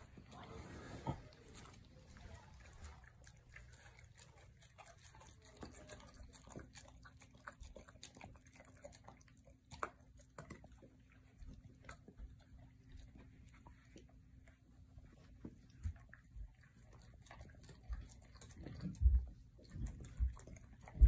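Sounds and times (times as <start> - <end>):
dog chewing and smacking: 0.0 - 21.0.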